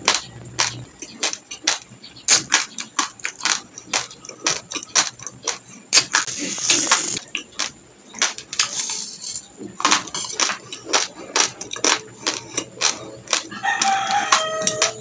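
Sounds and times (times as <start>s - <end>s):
chewing raw rice crunches: 0.0s - 8.7s, 9.7s - 15.0s.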